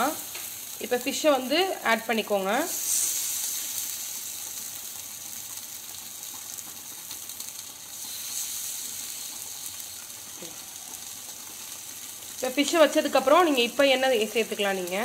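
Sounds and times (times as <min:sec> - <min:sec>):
fish sizzling on a hot pan: 0:00.0 - 0:15.0.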